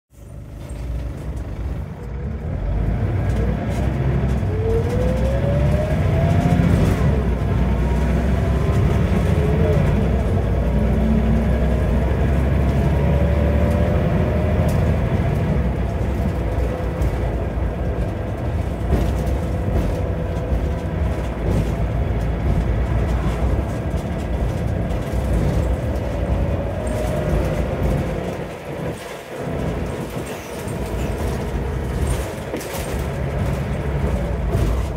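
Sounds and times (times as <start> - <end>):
bus engine drone: 0.1 - 34.9.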